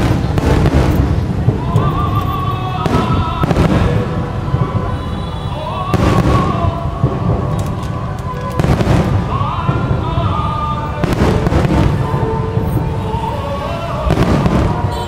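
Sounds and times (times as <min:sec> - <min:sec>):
fireworks bangs with crackle: 0:00.0 - 0:15.0
low rumble of fireworks: 0:00.0 - 0:15.0.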